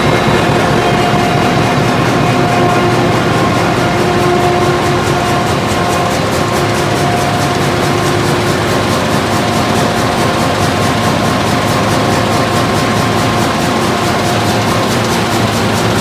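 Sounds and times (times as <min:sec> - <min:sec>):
fast regular clatter: 0:00.0 - 0:16.0
machine roar: 0:00.0 - 0:16.0
steady hums: 0:00.0 - 0:16.0.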